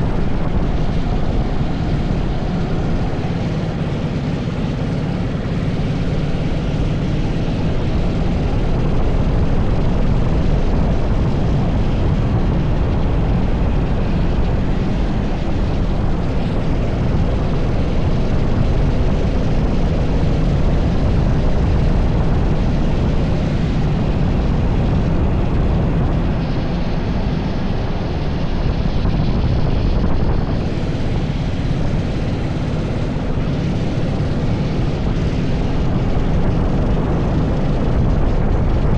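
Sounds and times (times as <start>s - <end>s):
kart engine droning: 0.0s - 38.9s.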